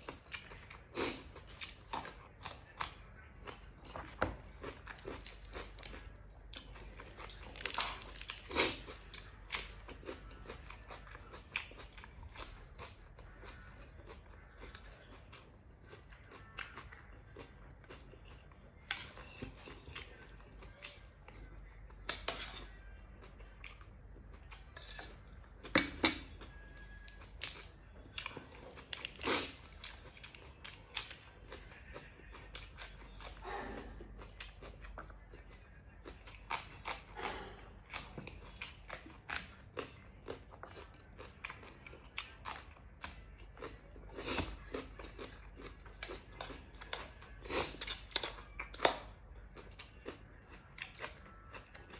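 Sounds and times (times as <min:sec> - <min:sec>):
person chewing and crunching food: 0:00.0 - 0:51.9.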